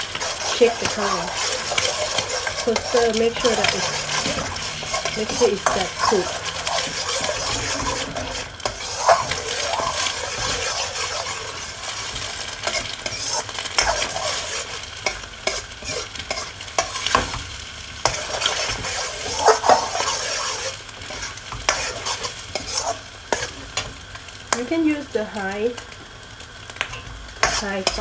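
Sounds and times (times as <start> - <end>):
metal spoon scraping pan: 0.0 - 17.4, 18.0 - 23.9, 26.9 - 28.0
eggs sizzling in oil: 0.0 - 28.0.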